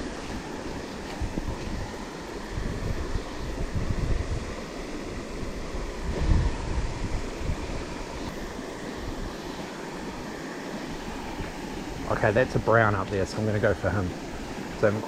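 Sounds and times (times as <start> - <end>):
mountain stream running: 0.0 - 15.0
wind buffeting microphone: 0.0 - 15.0.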